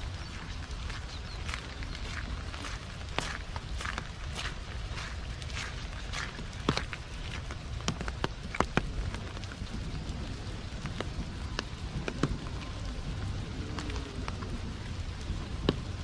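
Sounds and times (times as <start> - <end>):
heavy rain falling: 0.0 - 16.0
raindrops ticking close by: 0.0 - 16.0.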